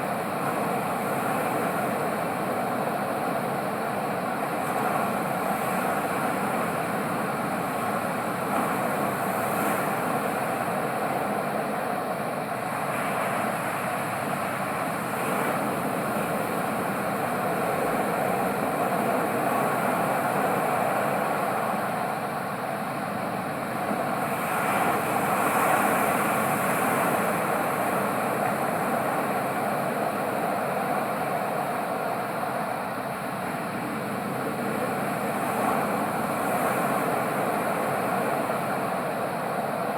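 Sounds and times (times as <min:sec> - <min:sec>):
ocean waves surf: 0:02.9 - 0:39.9.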